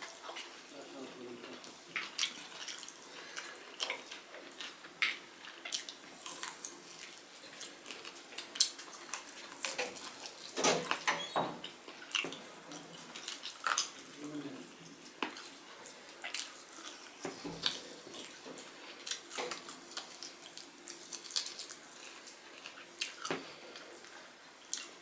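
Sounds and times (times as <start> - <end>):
wet chewing and lip smacks: 1.6 - 25.0.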